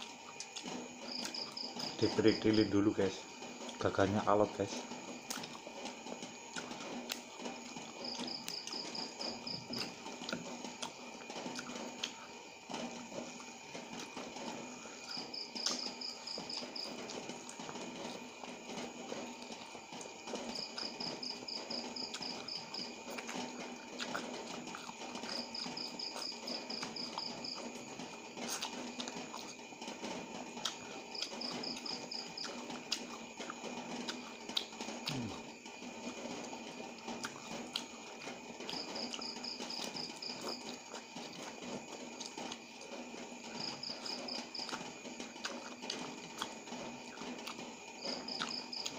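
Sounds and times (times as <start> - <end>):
insect chirping trills: 0.0 - 48.9
person chewing food: 5.0 - 48.9.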